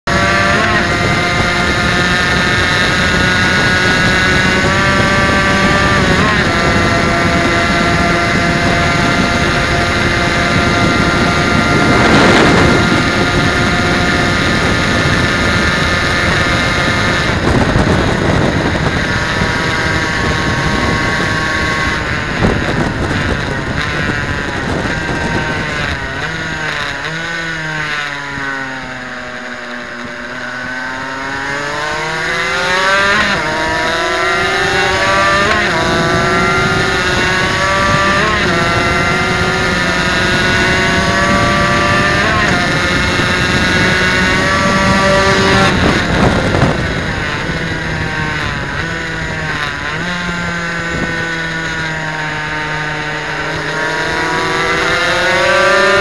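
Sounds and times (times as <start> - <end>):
two-stroke engine at high revs: 0.0 - 56.0
wind rushing: 0.1 - 56.0.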